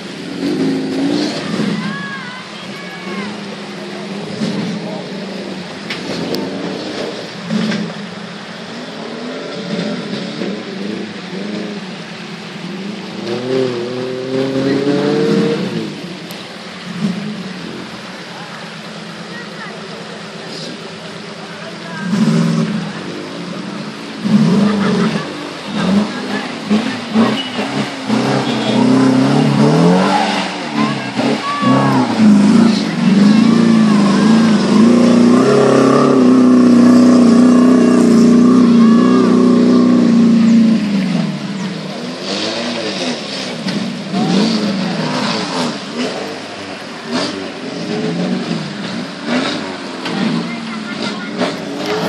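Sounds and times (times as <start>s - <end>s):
engine revving hard: 3.0s - 16.2s, 21.8s - 52.0s.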